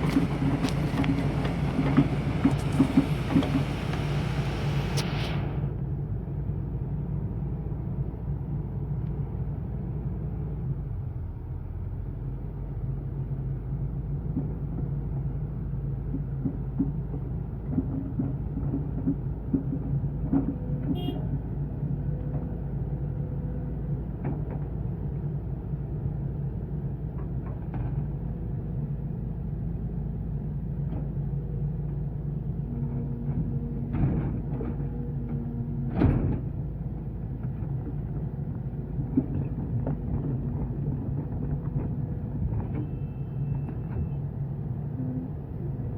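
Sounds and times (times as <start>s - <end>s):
excavator diesel engine running: 0.0s - 6.4s, 14.2s - 45.9s.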